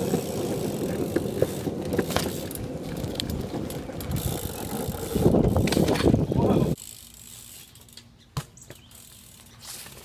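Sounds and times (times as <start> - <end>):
bike clicks and knocks: 0.0 - 10.0
bike tyres rolling: 0.0 - 10.0.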